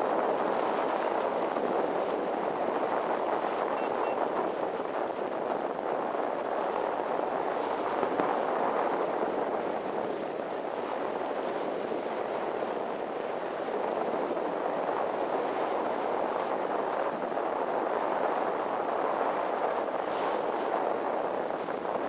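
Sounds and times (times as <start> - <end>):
motorcycle engine and road noise: 0.0 - 22.0
wind over microphone: 0.0 - 22.0.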